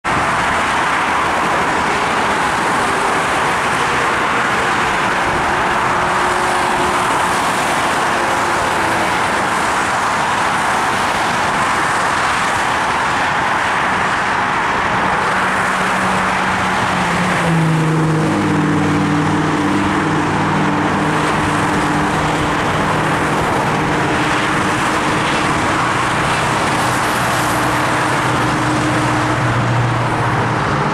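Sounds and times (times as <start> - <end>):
highway traffic passing: 0.0 - 30.9
diesel train engine hum: 0.1 - 30.9.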